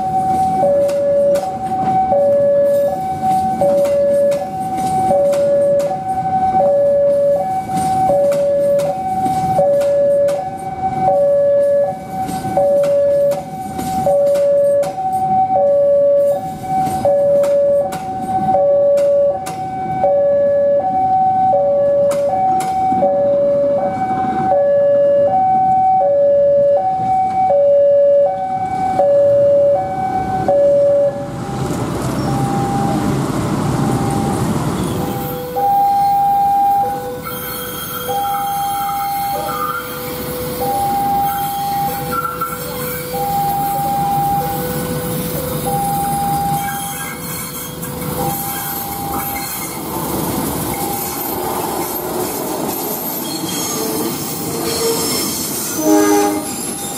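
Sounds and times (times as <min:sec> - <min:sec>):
passing train rumble: 0:00.0 - 0:56.9
two-tone crossing alarm: 0:00.0 - 0:56.9.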